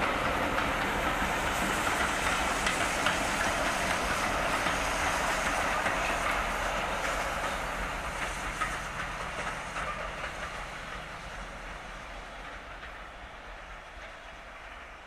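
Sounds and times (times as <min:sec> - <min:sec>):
train running along the line: 0:00.0 - 0:15.0.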